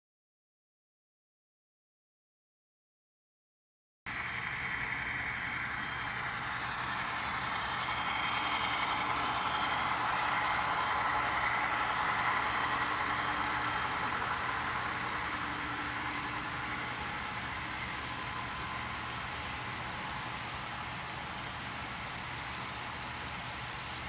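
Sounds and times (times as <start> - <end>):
model train rumbling on track: 4.1 - 24.0.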